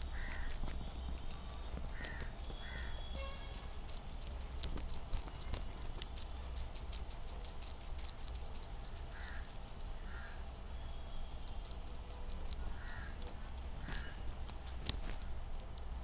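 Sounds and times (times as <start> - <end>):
guinea pigs chewing greens: 0.0 - 16.0.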